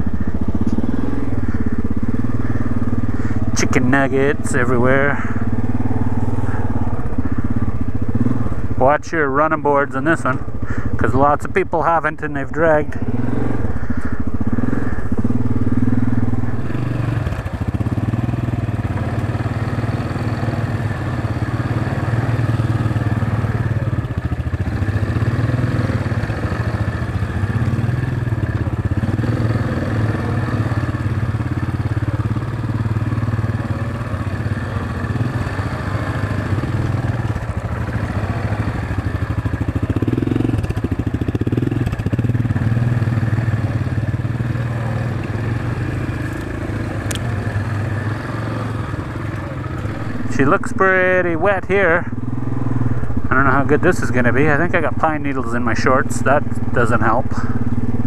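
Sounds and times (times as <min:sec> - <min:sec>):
atv engine running at low revs: 0:00.0 - 0:58.0.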